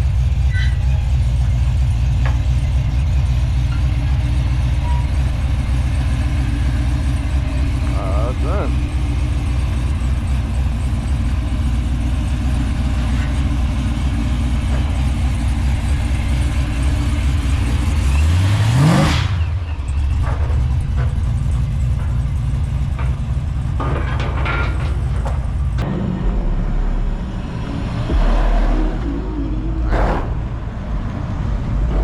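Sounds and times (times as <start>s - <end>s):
car engine rumbling and revving: 0.0s - 32.0s.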